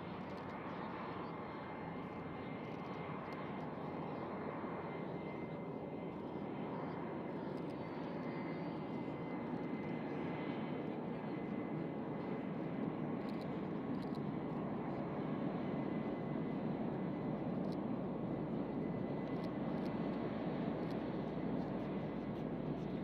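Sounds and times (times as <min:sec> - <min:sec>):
jet engines rumbling with high whine: 0:00.0 - 0:23.0.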